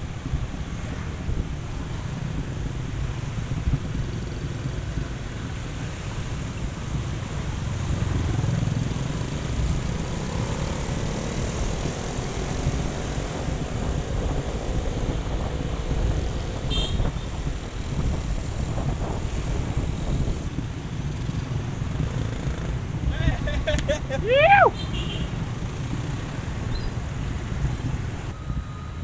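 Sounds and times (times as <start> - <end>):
wind on microphone: 0.0 - 24.8, 25.4 - 29.0
vehicle rumble: 0.0 - 29.0.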